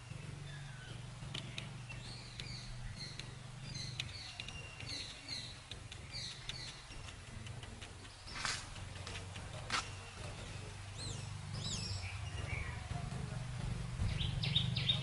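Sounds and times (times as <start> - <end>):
birds chirping: 0.0 - 15.0
low steady hum: 0.0 - 15.0.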